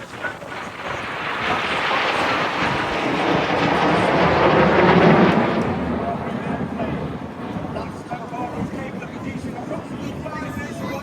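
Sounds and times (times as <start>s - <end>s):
jet aircraft roaring past: 0.0s - 11.0s.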